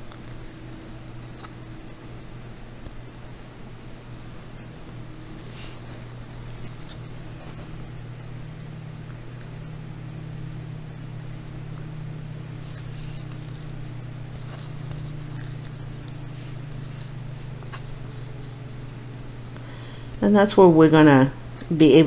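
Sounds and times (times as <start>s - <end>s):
soft rustles and clicks: 0.0s - 9.8s, 11.3s - 20.2s
fan humming: 0.0s - 22.0s.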